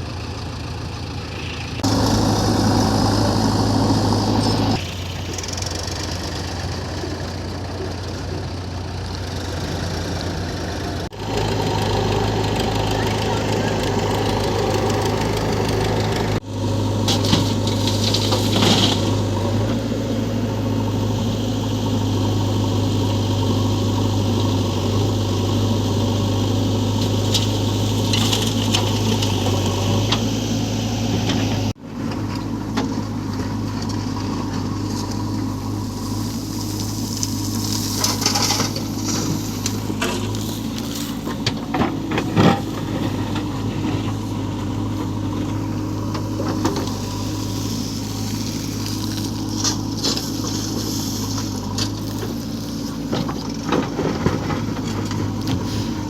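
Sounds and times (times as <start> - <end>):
diesel engine of heavy machinery: 0.0 - 56.0.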